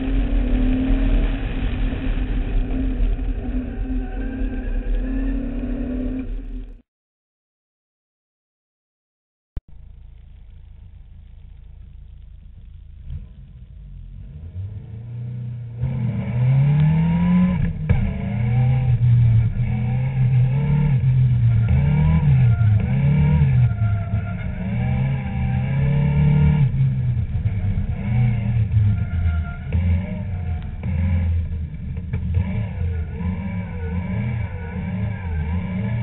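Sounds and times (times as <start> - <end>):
car engine revving: 0.0 - 6.8, 9.7 - 36.0.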